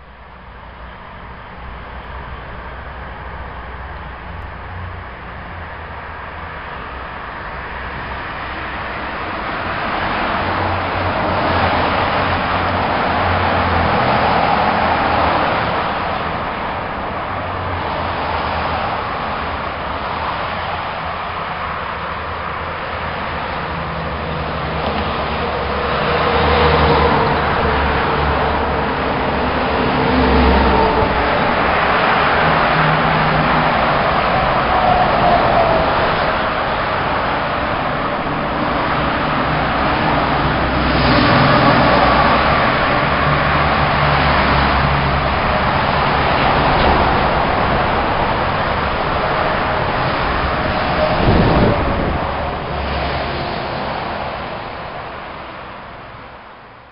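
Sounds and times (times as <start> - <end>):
traffic noise: 0.0 - 56.9
vehicle engines running: 0.0 - 56.9.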